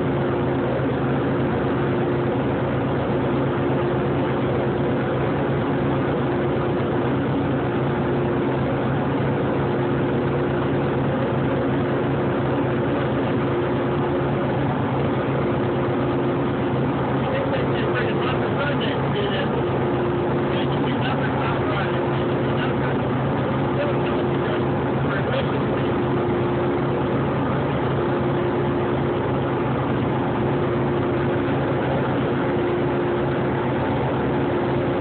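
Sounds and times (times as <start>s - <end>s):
motorcycle engine droning: 0.0s - 35.0s.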